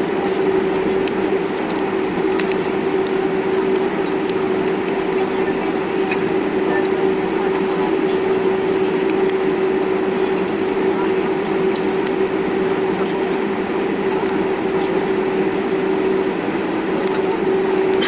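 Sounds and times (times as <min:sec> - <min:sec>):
constant hum: 0:00.0 - 0:18.0
jet engines droning: 0:00.0 - 0:18.0.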